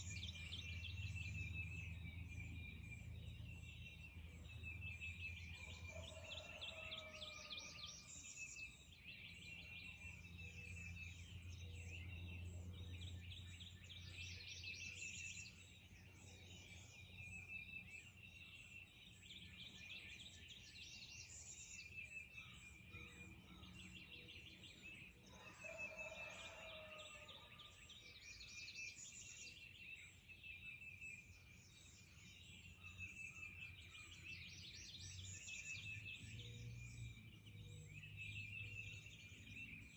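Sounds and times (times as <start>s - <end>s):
songbirds singing and trilling: 0.0s - 39.9s.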